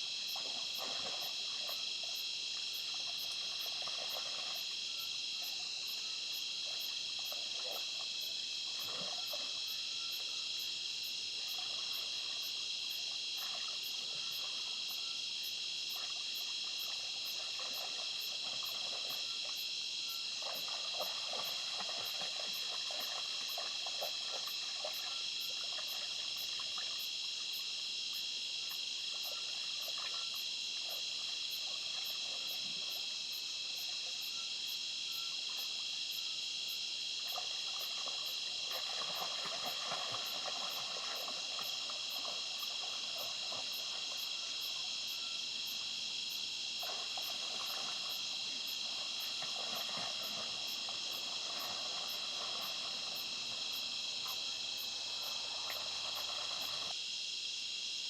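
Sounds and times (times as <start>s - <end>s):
crickets and night insects: 0.0s - 58.0s.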